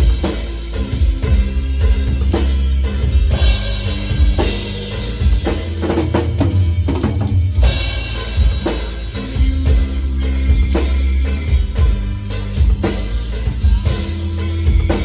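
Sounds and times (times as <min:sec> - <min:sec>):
heavy metal drum kit: 0:00.0 - 0:15.0.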